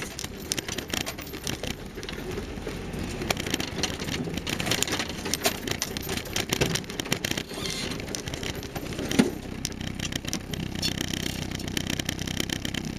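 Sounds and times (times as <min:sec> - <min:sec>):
car engine running: 0:00.0 - 0:12.9
vehicle bump: 0:00.0 - 0:12.9
vehicle knocks and rattles: 0:00.0 - 0:12.9.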